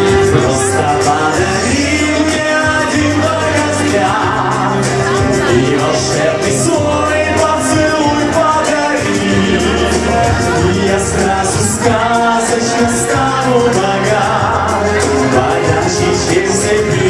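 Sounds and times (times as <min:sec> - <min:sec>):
man singing into microphone: 0:00.0 - 0:17.0
musical accompaniment: 0:00.0 - 0:17.0.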